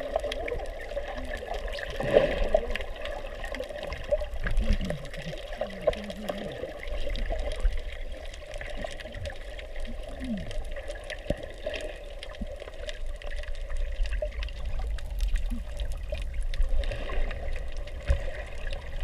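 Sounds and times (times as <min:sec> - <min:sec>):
muffled underwater water movement: 0:00.0 - 0:19.0.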